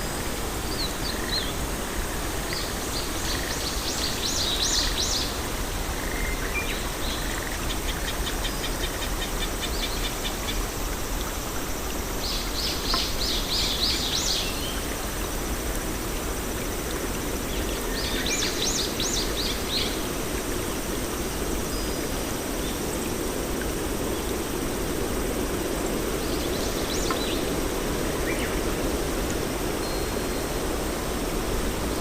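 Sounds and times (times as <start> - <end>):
rushing outdoor background noise: 0.0 - 32.0.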